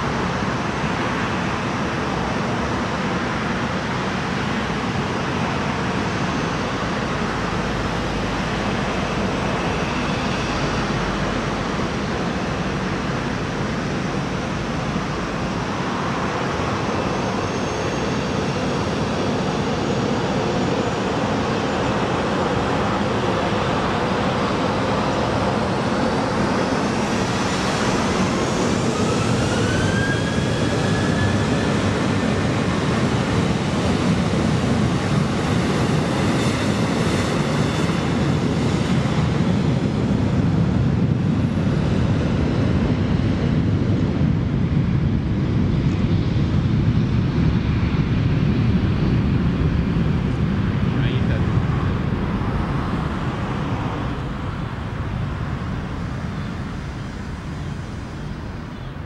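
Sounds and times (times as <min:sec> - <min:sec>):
jet engines running: 0:00.0 - 0:59.0
rising jet engine whine: 0:00.0 - 0:59.0.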